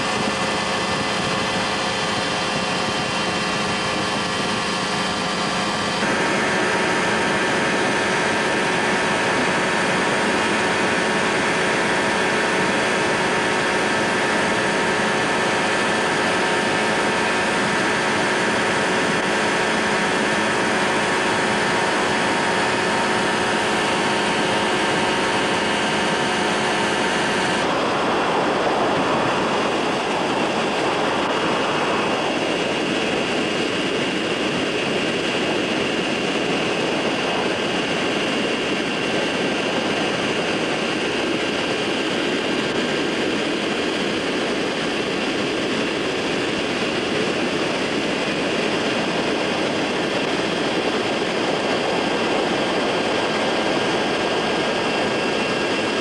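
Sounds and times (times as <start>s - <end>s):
steady rushing sound: 0.0s - 56.0s
ultralight aircraft engine: 0.0s - 56.0s.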